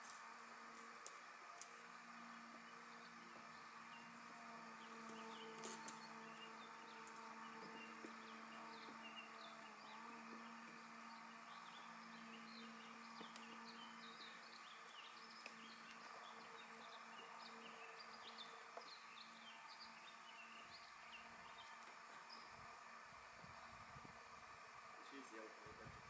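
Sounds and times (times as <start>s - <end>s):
birds chirping: 0.0s - 26.0s
faint steady hum: 0.0s - 26.0s.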